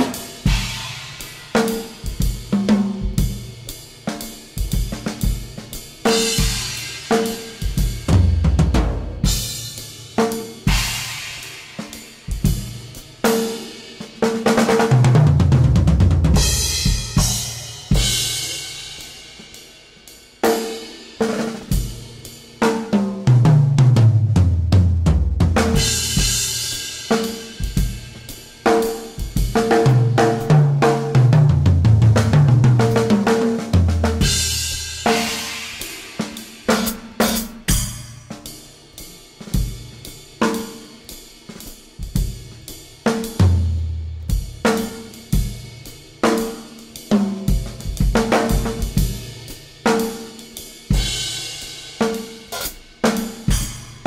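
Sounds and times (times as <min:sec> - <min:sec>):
improvised drum kit playing: 0:00.0 - 0:54.0.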